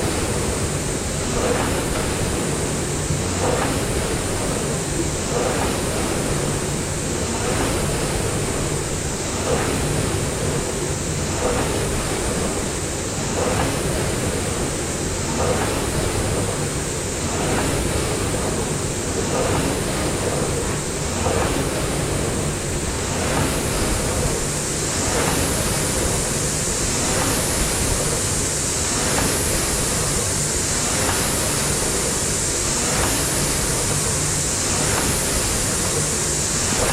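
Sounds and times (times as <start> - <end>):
rowing machine fan whooshing: 0.0 - 36.9.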